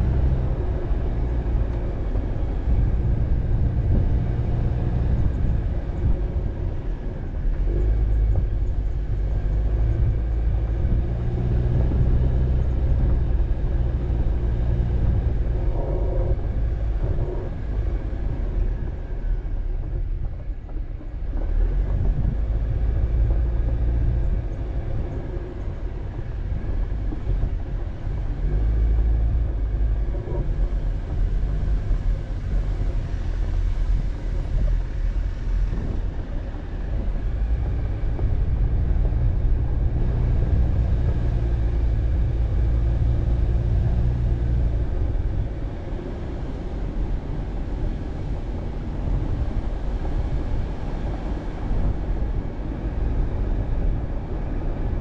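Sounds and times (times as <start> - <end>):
vehicle driving on dirt road: 0.0 - 55.0.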